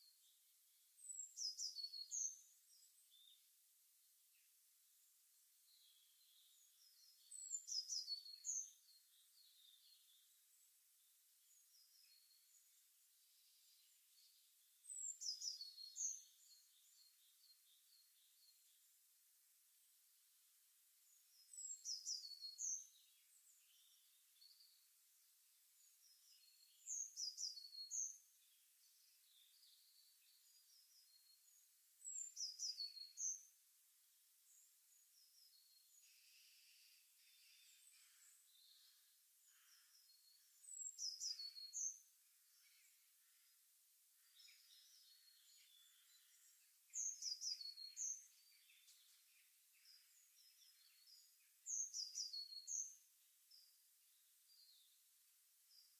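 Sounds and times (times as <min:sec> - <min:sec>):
songbird chirping: 0:00.0 - 0:55.9.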